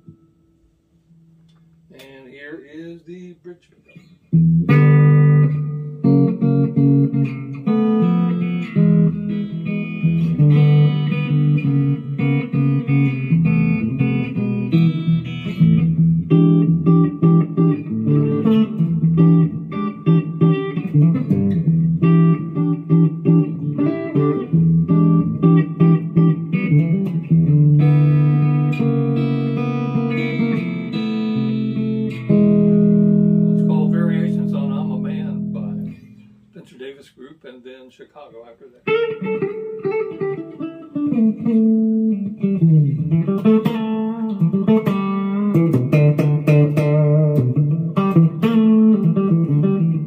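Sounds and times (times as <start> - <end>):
electric guitar through amp: 3.8 - 36.5, 38.8 - 50.0.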